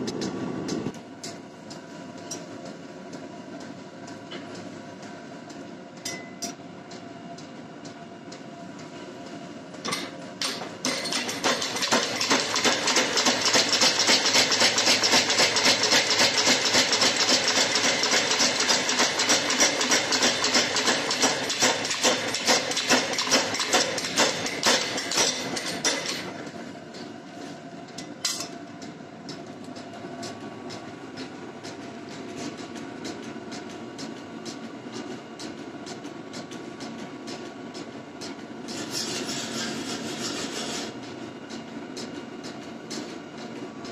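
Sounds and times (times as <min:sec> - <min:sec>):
steady machine hum: 0:00.0 - 0:43.9.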